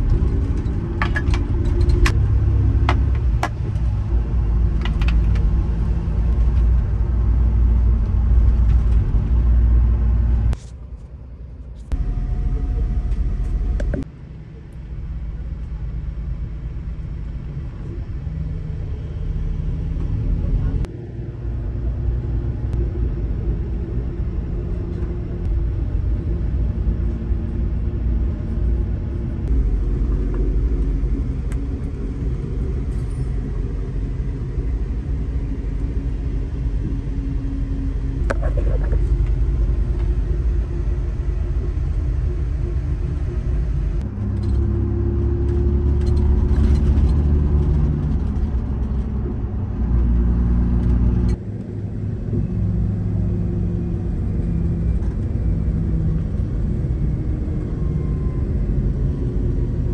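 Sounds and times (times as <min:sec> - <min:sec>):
bus engine and tyre rumble: 0:00.0 - 0:59.9.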